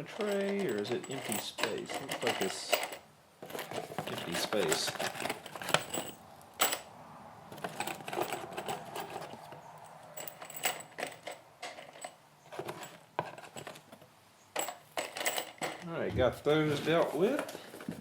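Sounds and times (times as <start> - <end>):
metal fasteners clattering: 0.0 - 6.9, 7.5 - 15.9.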